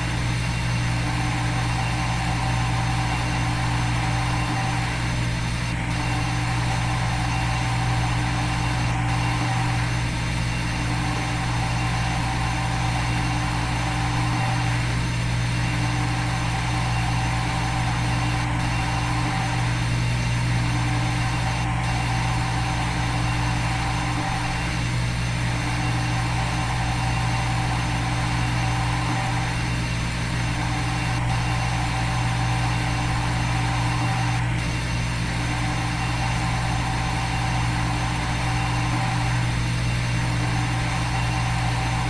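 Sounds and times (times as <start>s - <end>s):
milling spindle hum: 0.0s - 42.0s.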